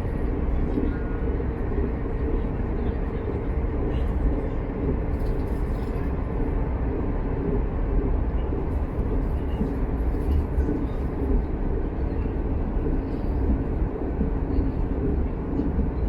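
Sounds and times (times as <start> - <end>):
train running at speed: 0.0 - 16.0.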